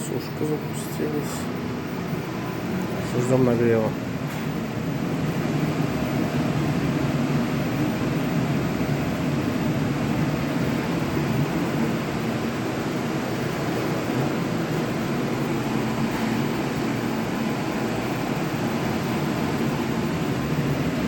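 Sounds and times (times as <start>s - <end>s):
blower rush of air: 0.0s - 21.0s
faint hum: 0.0s - 21.0s.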